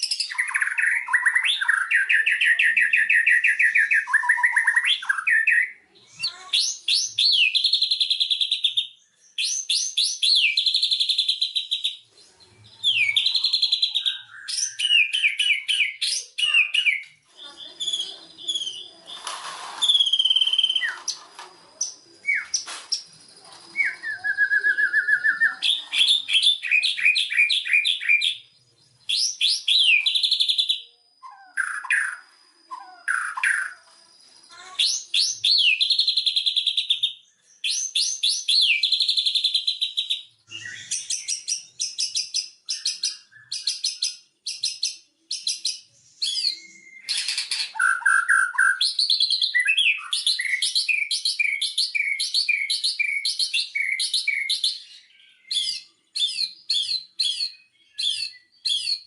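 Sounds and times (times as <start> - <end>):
songbird singing whistles and trills: 0.0 - 59.0.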